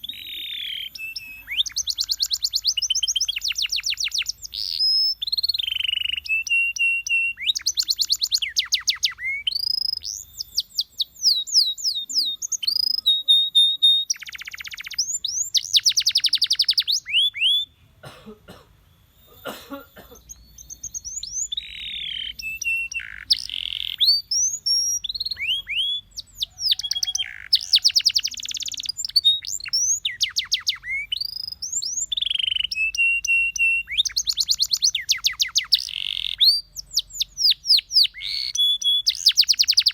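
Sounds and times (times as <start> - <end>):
canary singing trills: 0.0 - 18.1, 18.7 - 39.9.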